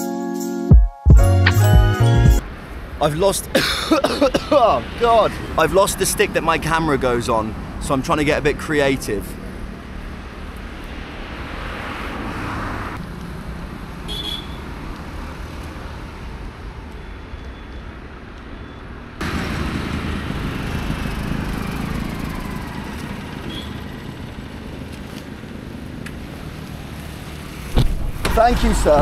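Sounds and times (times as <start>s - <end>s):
highway traffic passing: 2.4s - 29.0s.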